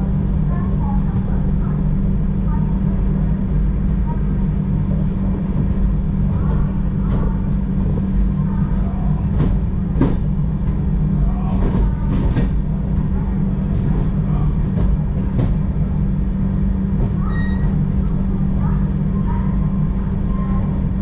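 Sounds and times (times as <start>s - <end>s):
train coach rumbling hum: 0.0s - 21.0s.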